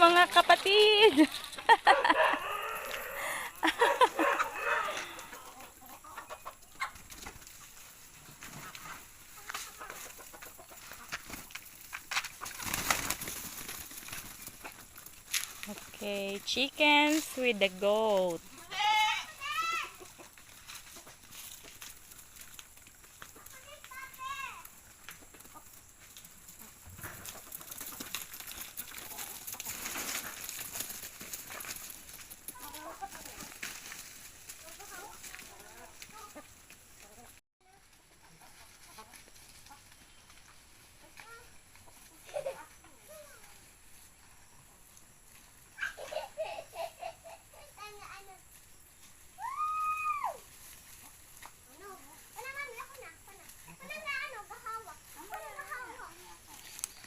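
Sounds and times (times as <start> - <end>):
chickens clucking: 0.0 - 49.4, 50.6 - 57.0
rustling: 0.0 - 57.0.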